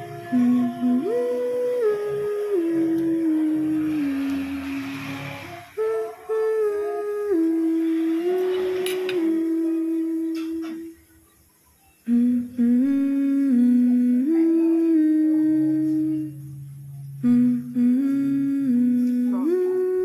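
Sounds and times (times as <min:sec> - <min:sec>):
woman humming: 0:00.0 - 0:11.1, 0:12.0 - 0:20.0.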